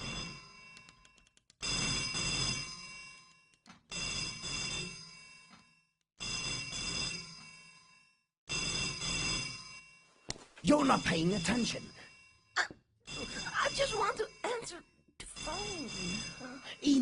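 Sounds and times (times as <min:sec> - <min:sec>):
telephone bell ringing: 0:00.0 - 0:17.0.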